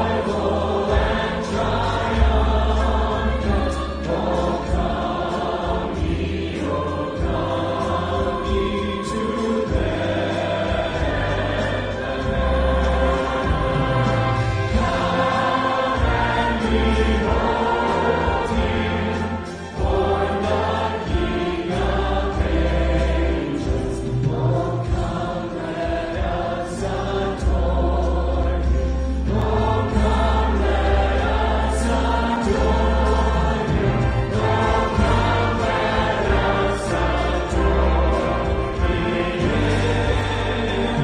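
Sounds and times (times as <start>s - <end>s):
congregation and choir singing: 0.0s - 41.0s
instrumental accompaniment: 0.0s - 41.0s.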